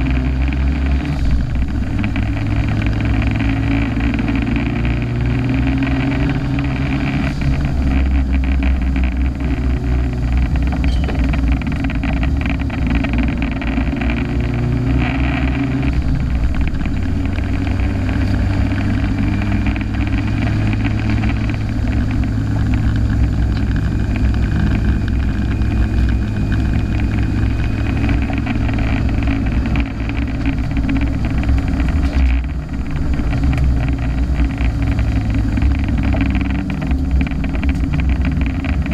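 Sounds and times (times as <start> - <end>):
car engine running under load: 0.0 - 38.9.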